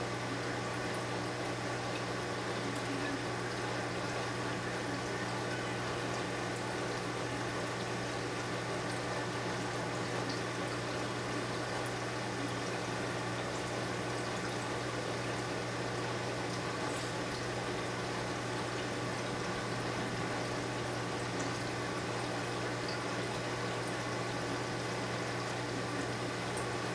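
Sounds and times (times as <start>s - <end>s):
pump humming: 0.0s - 26.9s
water flowing: 0.1s - 26.9s.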